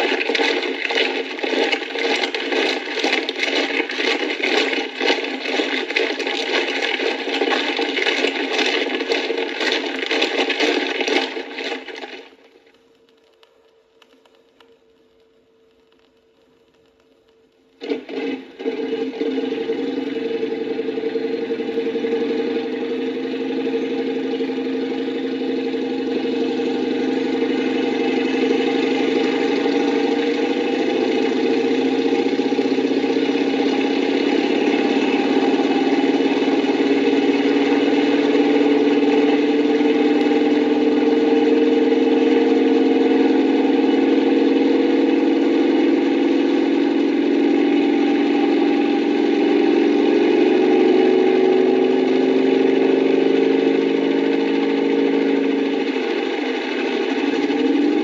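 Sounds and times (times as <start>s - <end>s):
engine running steadily: 0.0s - 12.4s, 17.8s - 58.0s.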